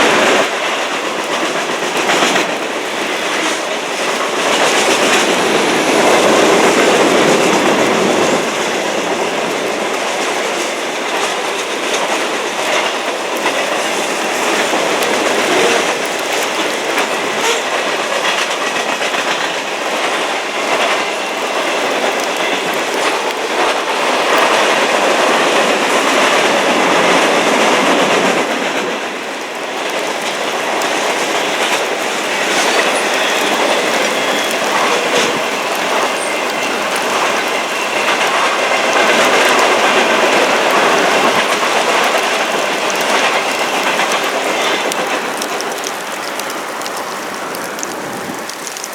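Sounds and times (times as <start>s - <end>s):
freight train cars rolling: 0.0s - 48.9s
wheels clicking over rail joints: 0.0s - 48.9s.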